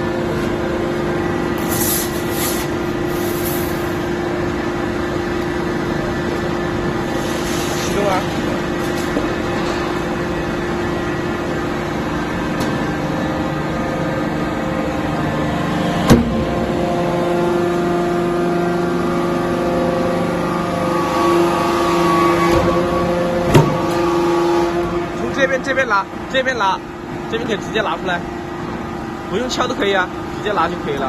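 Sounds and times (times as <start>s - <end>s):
machine mechanical hum: 0.0s - 31.0s.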